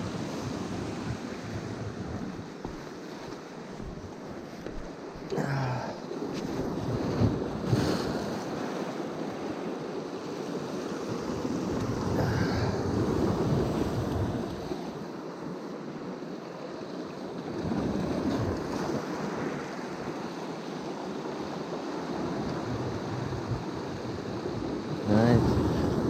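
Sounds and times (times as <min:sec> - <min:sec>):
sea waves washing on shore: 0:00.0 - 0:26.0.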